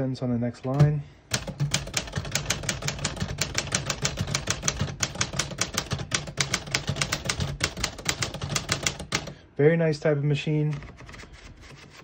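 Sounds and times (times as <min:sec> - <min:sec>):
manual typewriter typing: 0:00.7 - 0:09.4, 0:10.7 - 0:12.0.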